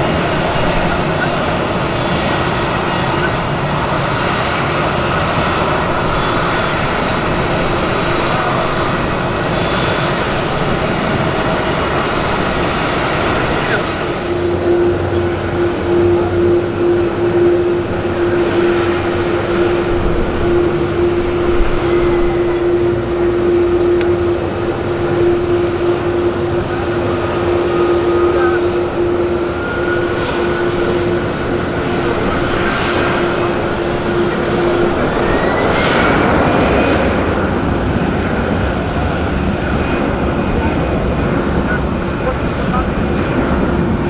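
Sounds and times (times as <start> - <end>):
aircraft engines roaring: 0.0 - 44.0
droning tone: 0.0 - 44.0
low rumble: 0.0 - 44.0.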